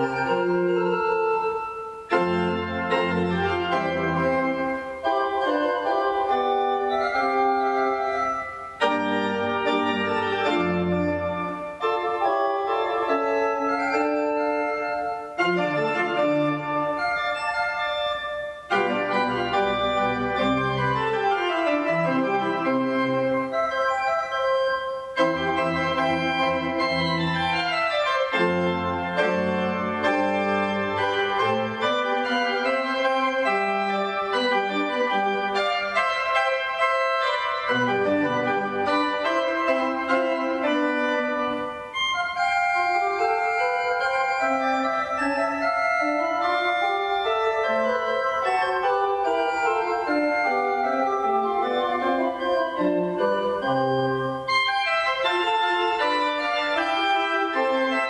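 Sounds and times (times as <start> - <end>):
organ music: 0.0 - 58.0.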